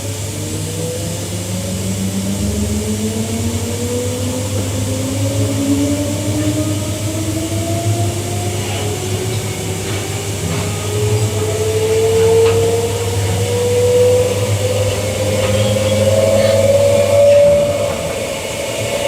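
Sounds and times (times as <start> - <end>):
traction motors whining: 0.0 - 19.0.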